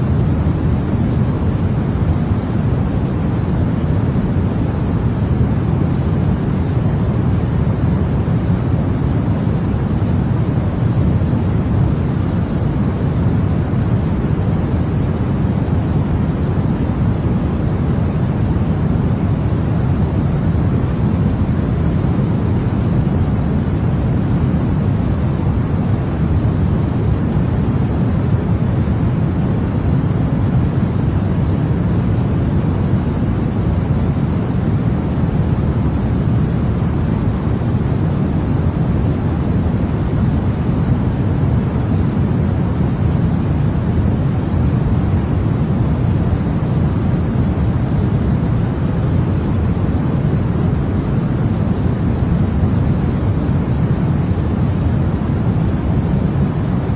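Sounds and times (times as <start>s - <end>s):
deep white noise hiss: 0.0s - 56.9s.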